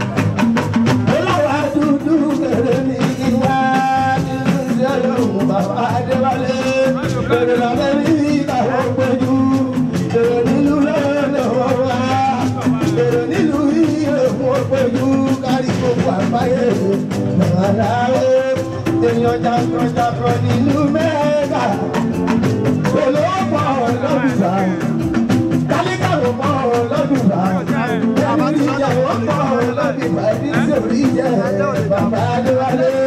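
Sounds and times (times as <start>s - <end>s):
band with quick percussion: 0.0s - 33.0s
man singing into a microphone: 1.0s - 33.0s.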